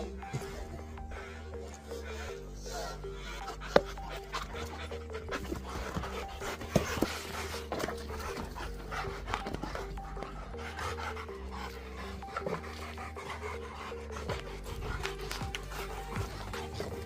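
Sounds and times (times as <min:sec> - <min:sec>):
background music: 0:00.0 - 0:17.0
dogs panting hard: 0:00.0 - 0:17.0.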